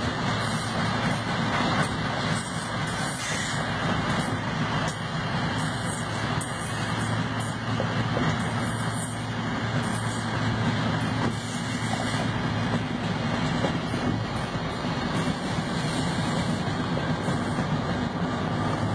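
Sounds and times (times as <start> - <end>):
freight train rolling: 0.0 - 18.9.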